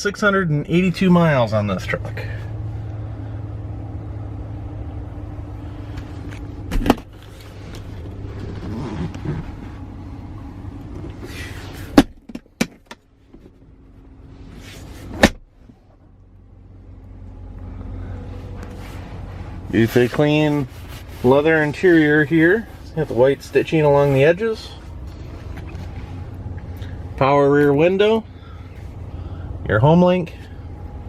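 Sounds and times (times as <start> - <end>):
truck engine hum in cab: 0.0 - 31.0.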